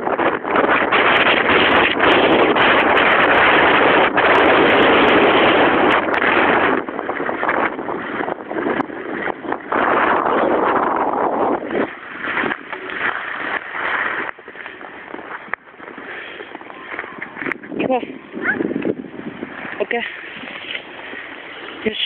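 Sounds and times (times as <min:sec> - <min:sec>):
skis scraping over snow: 0:00.0 - 0:22.0
wind on microphone: 0:00.0 - 0:22.0.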